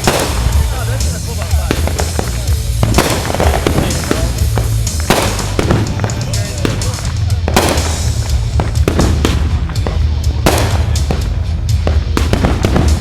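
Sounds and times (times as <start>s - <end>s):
fireworks cracking: 0.0s - 13.0s
loud music with heavy bass: 0.0s - 13.0s.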